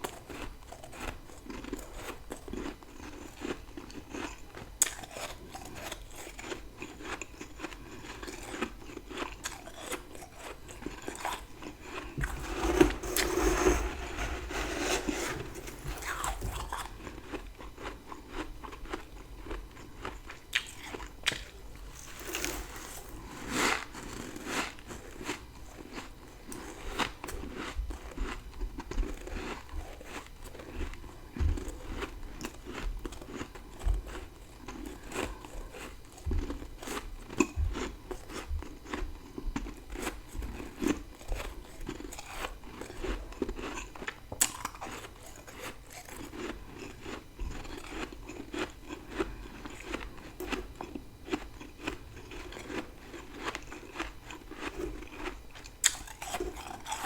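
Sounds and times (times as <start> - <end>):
chewing crunchy frost: 0.0 - 57.0.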